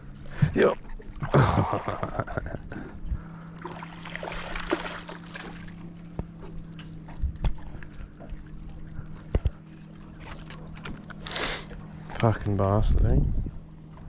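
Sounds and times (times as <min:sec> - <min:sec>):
water slapping at hull: 0:00.0 - 0:12.2
boat low hum: 0:00.0 - 0:14.0.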